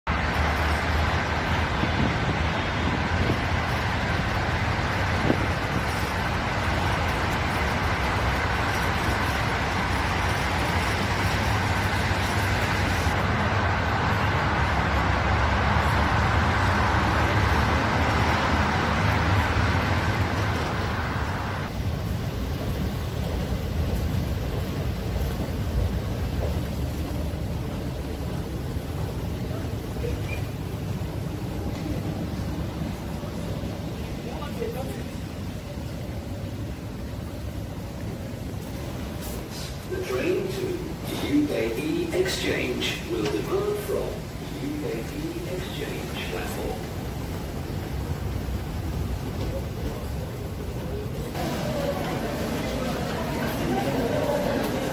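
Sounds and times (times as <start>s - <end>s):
busy road traffic: 0.0s - 54.9s.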